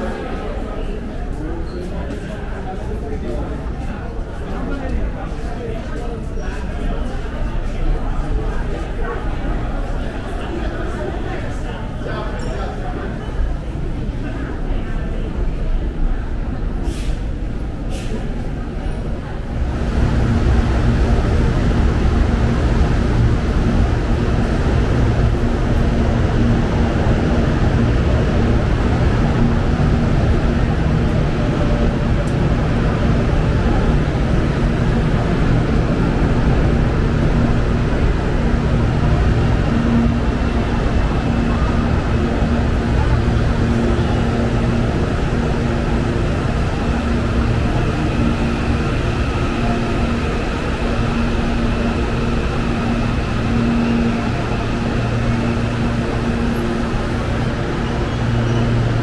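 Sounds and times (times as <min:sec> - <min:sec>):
train rumble and hum: 0:00.0 - 0:59.0.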